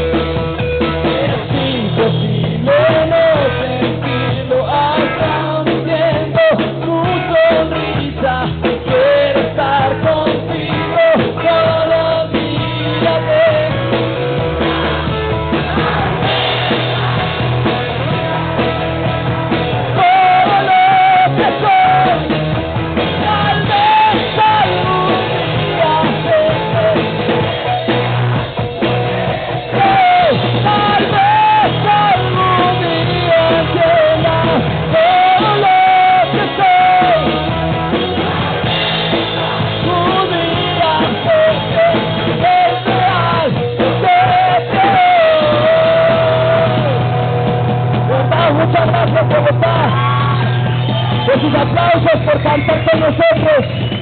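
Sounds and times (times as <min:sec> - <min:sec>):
drums: 0:00.0 - 0:54.0
rock band playing live: 0:00.0 - 0:54.0
wavering melodic lead line: 0:00.0 - 0:54.0.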